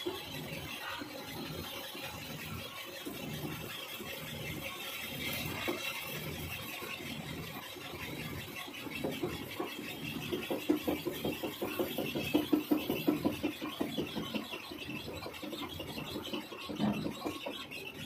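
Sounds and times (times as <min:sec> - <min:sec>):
rapid regular beat: 0:00.0 - 0:17.4.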